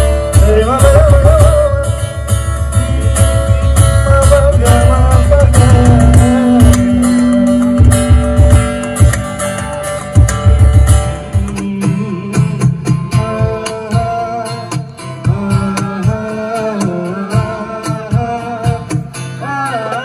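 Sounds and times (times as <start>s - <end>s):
man singing: 0.0s - 10.1s, 11.0s - 20.0s
cajon beat: 0.0s - 20.0s
strummed acoustic guitar: 0.0s - 20.0s.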